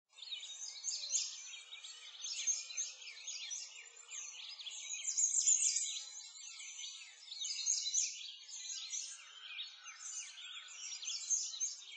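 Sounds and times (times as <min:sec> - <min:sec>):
songbirds chirping: 0:00.1 - 0:11.9.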